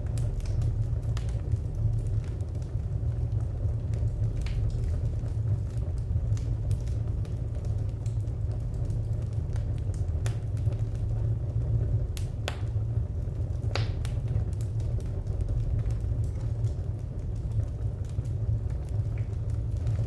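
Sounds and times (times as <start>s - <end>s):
low rumble of fire: 0.0s - 20.0s
wood fire crackling: 0.0s - 20.0s.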